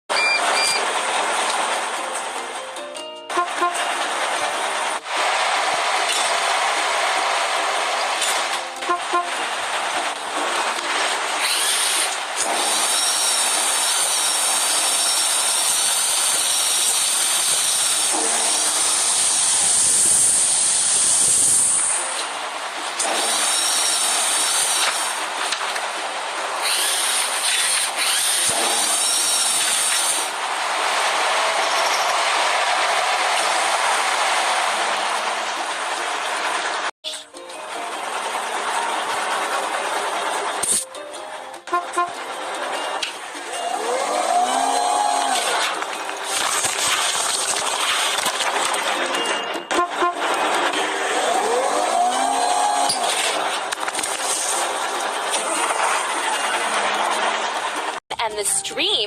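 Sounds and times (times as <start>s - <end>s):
heavy machinery running: 0.1s - 58.0s.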